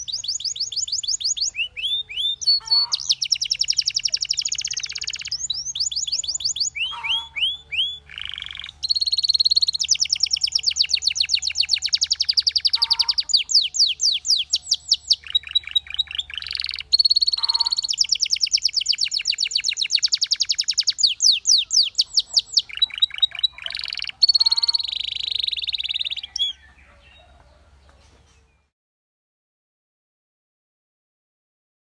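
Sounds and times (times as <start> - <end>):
canary singing trills: 0.0 - 28.7.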